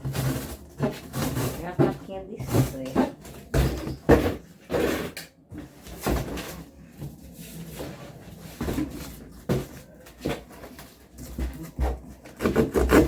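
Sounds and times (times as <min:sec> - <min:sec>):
cardboard rustling and scraping: 0:00.0 - 0:13.0.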